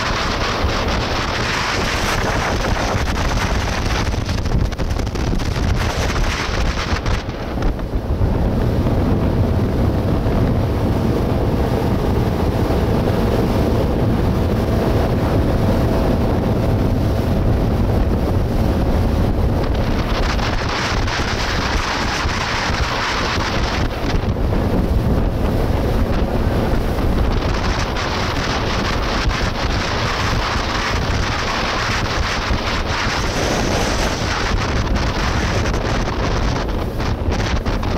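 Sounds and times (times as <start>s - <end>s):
motorboat engine rushing: 0.0s - 37.9s
water rushing off hull: 0.0s - 37.9s
wind noise on microphone: 0.0s - 37.9s.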